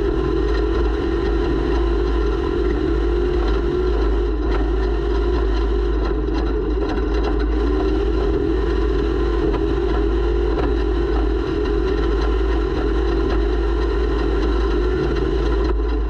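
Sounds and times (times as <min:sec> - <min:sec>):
race vehicle engine droning: 0:00.0 - 0:16.0.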